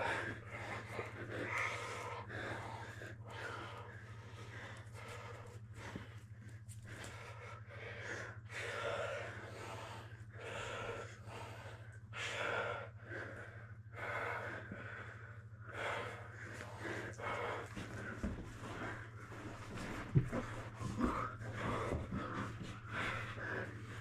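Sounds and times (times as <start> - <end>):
heavy breathing: 0.0 - 24.0
steady low hum: 0.0 - 24.0.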